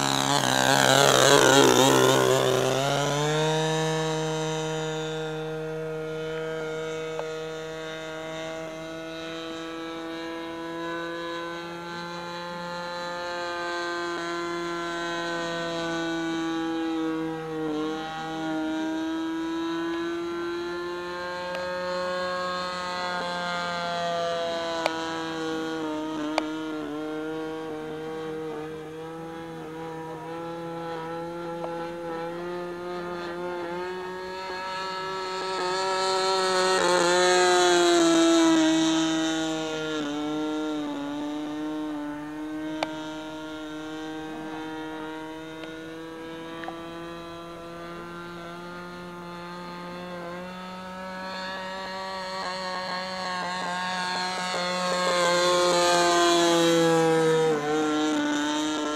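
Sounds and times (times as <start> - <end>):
model plane engine buzzing: 0.0 - 58.9.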